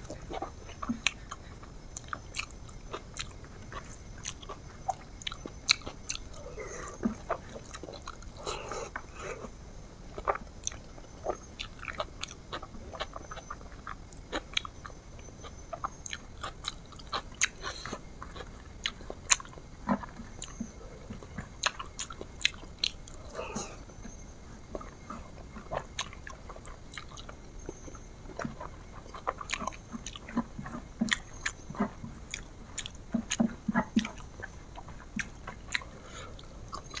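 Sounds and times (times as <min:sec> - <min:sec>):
crunchy biting and chewing: 0:00.0 - 0:37.0.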